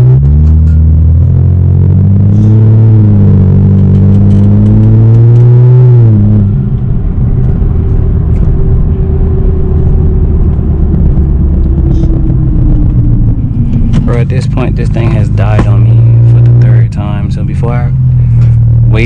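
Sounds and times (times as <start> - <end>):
car exhaust pulling under load: 0.0 - 19.0
road noise: 0.0 - 19.0.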